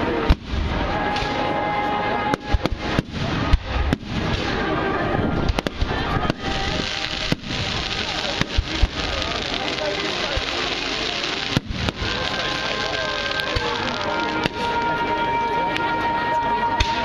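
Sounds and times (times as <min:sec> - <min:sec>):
fireworks bangs: 0:00.0 - 0:15.8, 0:16.7 - 0:17.0
fireworks crackle: 0:00.0 - 0:17.0.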